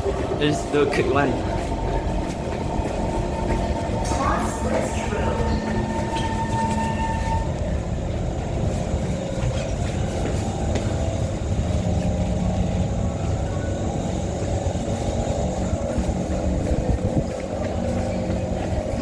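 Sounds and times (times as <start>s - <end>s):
low hum: 0.0s - 19.0s
train rumbling on rails: 0.0s - 19.0s.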